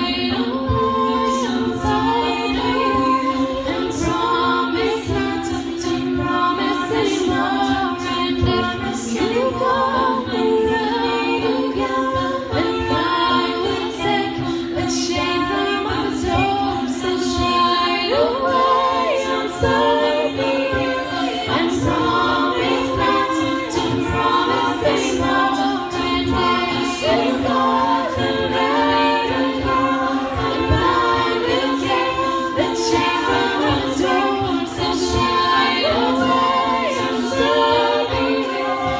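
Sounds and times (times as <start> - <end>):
group singing a cappella: 0.0 - 38.9.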